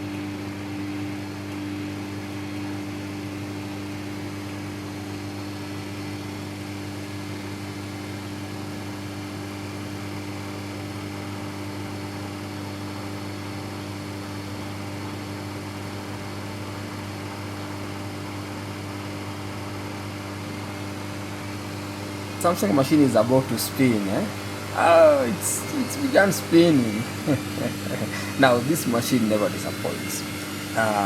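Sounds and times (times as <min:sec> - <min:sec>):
washing machine humming: 0:00.0 - 0:31.0.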